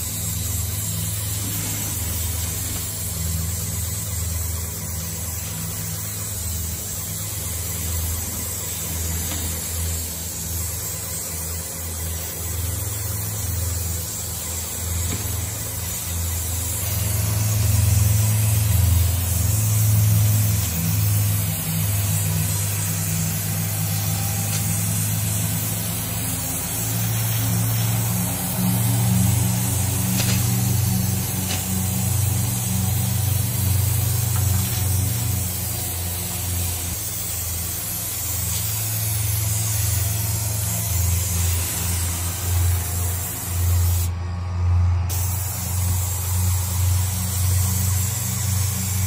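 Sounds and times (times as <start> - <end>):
spray gun hissing: 0.0 - 44.1, 45.1 - 49.0
paint sprayer pump droning: 0.0 - 49.0.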